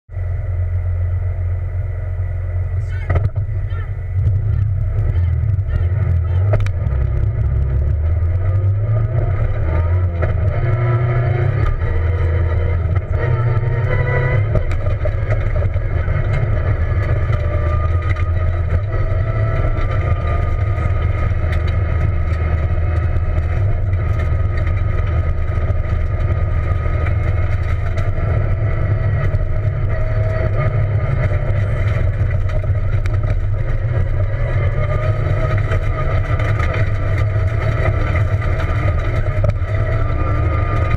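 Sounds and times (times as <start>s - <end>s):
rally car engine revving: 0.1s - 40.9s.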